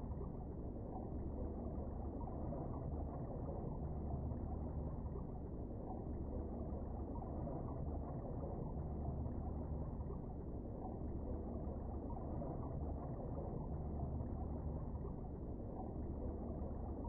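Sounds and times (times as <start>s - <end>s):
muffled underwater rumble: 0.0s - 17.0s.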